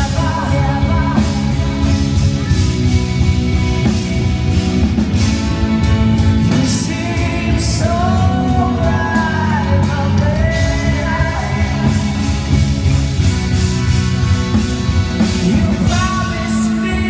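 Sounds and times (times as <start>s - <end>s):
live rock band: 0.0s - 17.0s.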